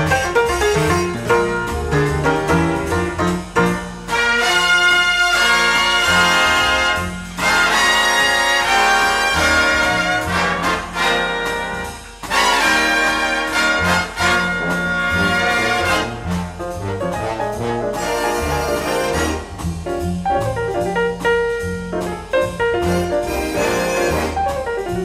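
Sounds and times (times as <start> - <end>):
jazz band brass chords: 0.0 - 25.0
moving bass line: 0.0 - 25.0.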